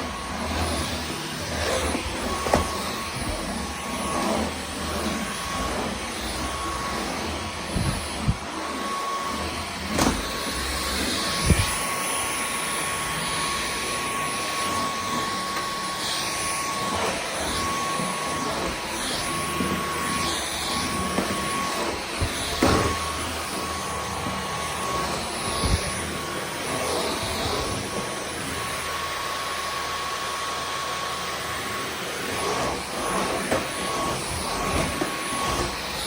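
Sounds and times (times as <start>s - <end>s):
stick vacuum running: 0.0s - 36.0s.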